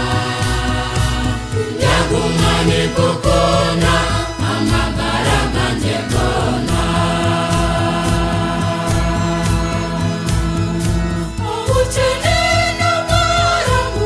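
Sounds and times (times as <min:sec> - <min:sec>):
gospel choir singing: 0:00.0 - 0:14.0
instrumental backing with beat: 0:00.0 - 0:14.0.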